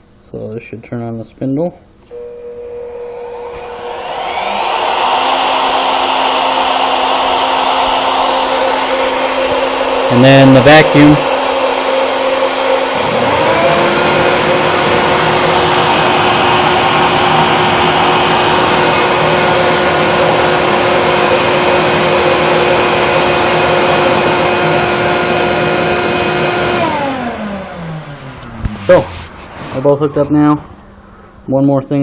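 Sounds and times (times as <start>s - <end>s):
router spindle whine: 2.1s - 29.2s
vacuum cleaner running: 2.1s - 30.0s.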